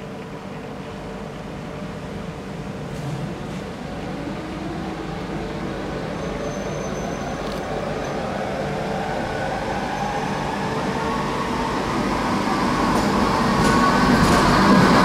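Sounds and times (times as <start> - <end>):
train hum: 0.0 - 15.0
electric train passing: 1.0 - 15.0.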